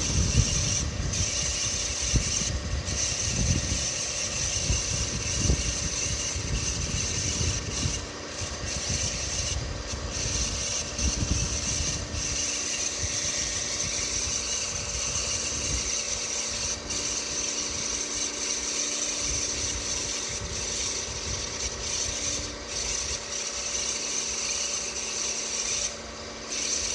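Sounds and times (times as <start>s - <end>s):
high-pitched engine whine: 0.0s - 26.9s.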